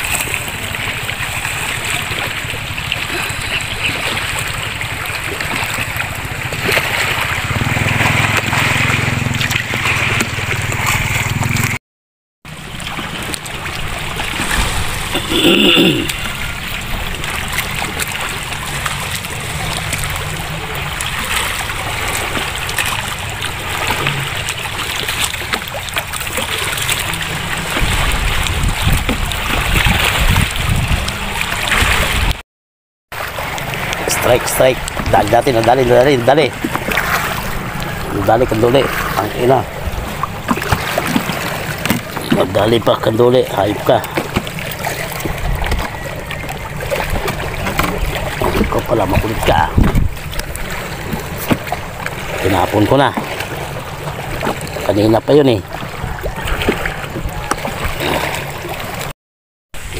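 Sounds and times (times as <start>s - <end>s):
small waves lapping: 0.0s - 11.8s, 12.5s - 32.4s, 33.1s - 59.1s.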